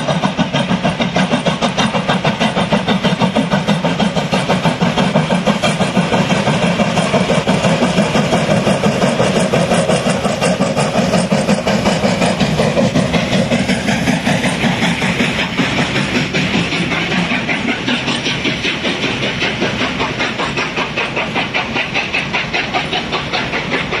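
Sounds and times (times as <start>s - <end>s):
steam locomotive exhaust chuffing: 0.0s - 24.0s
train coaches rolling: 0.0s - 24.0s.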